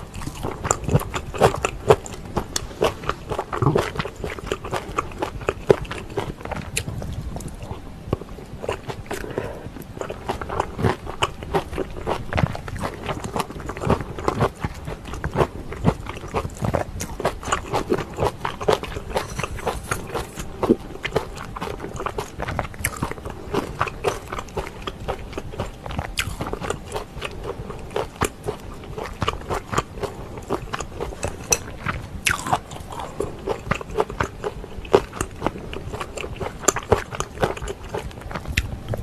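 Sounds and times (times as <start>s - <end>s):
person chewing with wet smacks: 0.0s - 39.0s.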